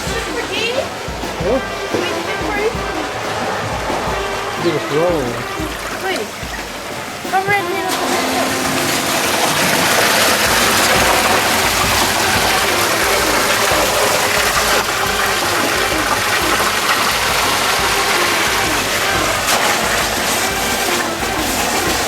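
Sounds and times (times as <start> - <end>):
water gushing: 0.0 - 22.0.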